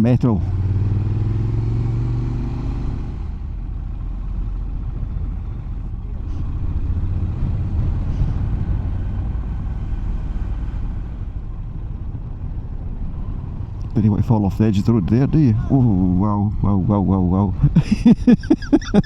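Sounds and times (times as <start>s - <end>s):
motorcycle engine rumble: 0.0s - 19.0s
wind and road noise: 0.0s - 19.0s.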